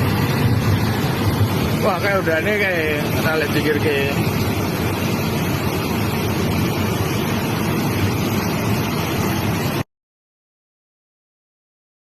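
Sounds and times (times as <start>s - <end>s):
mudflow rushing down river: 0.0s - 9.8s.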